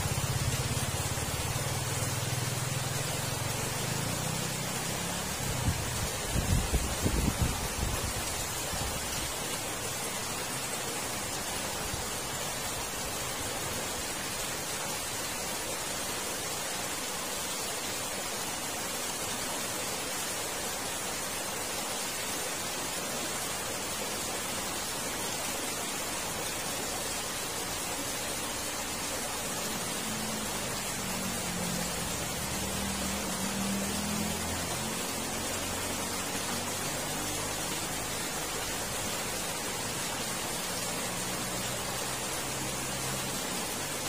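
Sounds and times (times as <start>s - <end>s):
water rushing through culvert: 0.0s - 44.0s.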